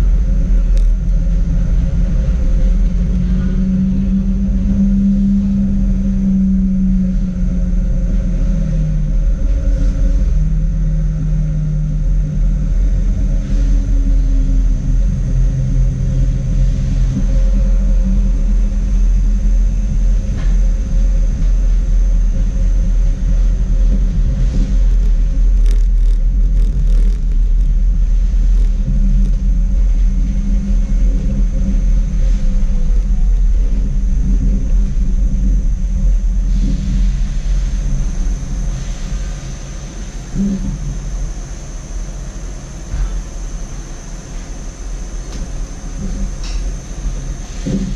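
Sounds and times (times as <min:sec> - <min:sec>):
steel wheels rumbling on rails: 0:00.0 - 0:47.9
tram motor hum: 0:00.0 - 0:47.9.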